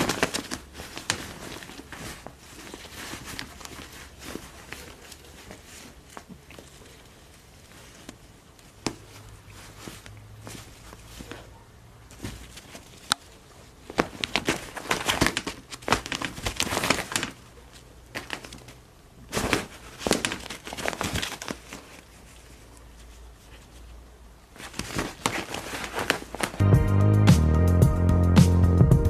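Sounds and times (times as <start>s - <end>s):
nylon fabric rustling: 0.0s - 26.6s.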